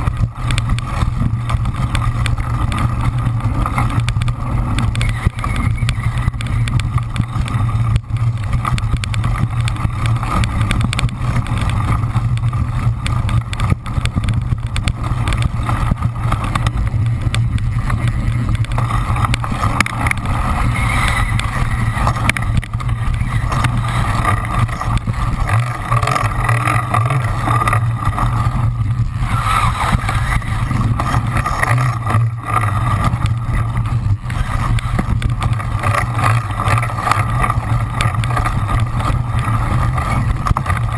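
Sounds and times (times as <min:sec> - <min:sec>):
camera rattle: 0:00.0 - 0:40.9
wind rumble on camera: 0:00.0 - 0:40.9.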